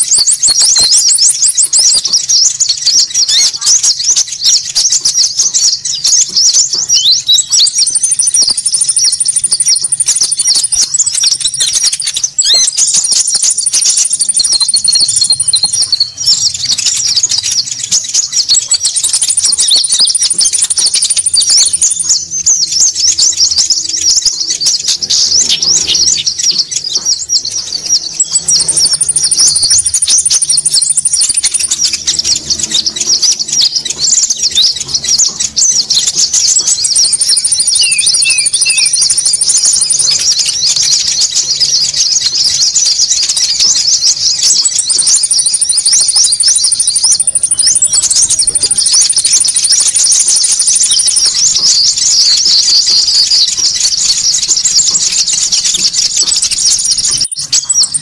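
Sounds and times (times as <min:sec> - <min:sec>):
high even bird trill: 0:00.0 - 0:58.0
small birds chirping: 0:00.0 - 0:58.0.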